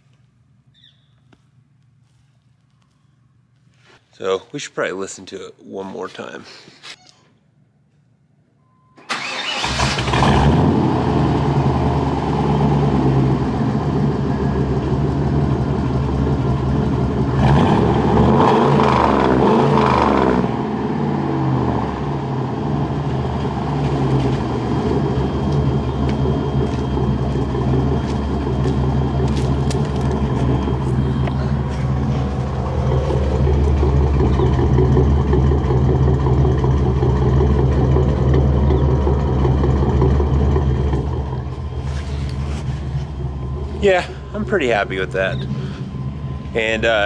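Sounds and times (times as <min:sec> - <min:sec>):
truck engine starting and idling: 0:08.6 - 0:47.0
engine revving: 0:09.1 - 0:47.0.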